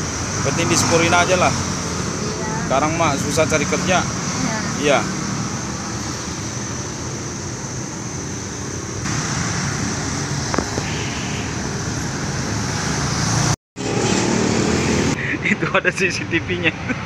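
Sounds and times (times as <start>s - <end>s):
motorbikes passing: 0.0s - 17.0s
road traffic: 0.0s - 17.0s.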